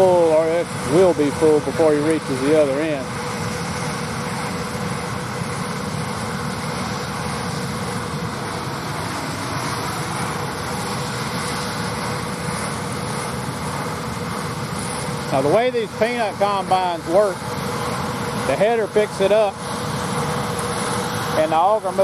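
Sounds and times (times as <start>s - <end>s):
tractors and machinery droning: 0.0s - 22.0s.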